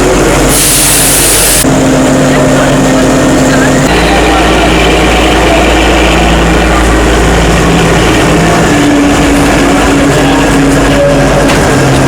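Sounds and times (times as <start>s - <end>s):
train engine hum: 0.0s - 12.0s
train running noise: 0.0s - 12.0s.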